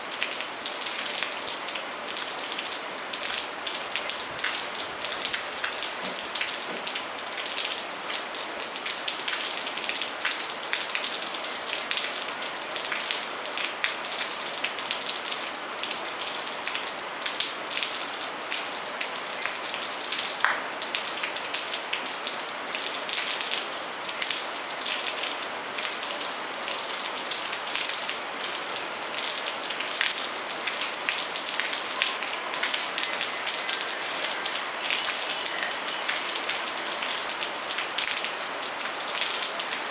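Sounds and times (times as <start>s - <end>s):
rain pattering on ground and leaves: 0.0s - 39.9s.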